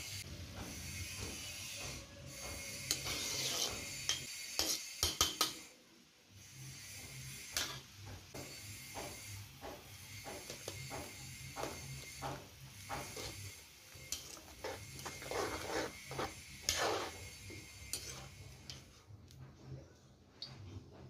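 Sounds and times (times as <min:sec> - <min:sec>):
metal spoon scraping a wok: 0:00.8 - 0:05.8, 0:06.4 - 0:19.0.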